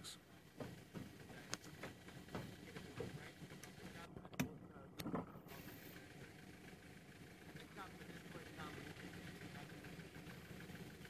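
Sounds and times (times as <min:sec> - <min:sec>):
vehicle engine idling faintly: 0:00.0 - 0:11.0.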